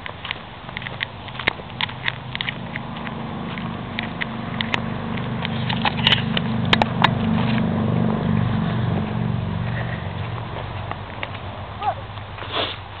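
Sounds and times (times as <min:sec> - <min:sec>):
distant engine drone: 0:00.0 - 0:12.4
footsteps on dirt: 0:00.0 - 0:13.0.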